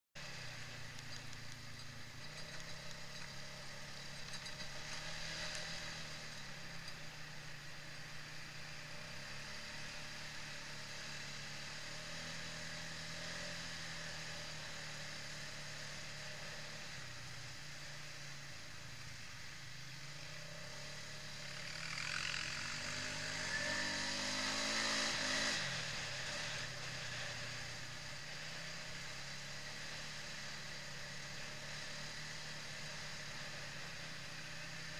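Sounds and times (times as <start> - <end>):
quad bike engine revving: 0.2 - 16.9, 20.3 - 34.9.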